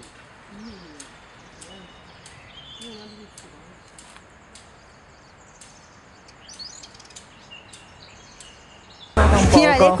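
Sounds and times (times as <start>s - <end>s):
faint steady hiss: 0.0s - 9.1s
small birds chirping: 0.0s - 9.2s.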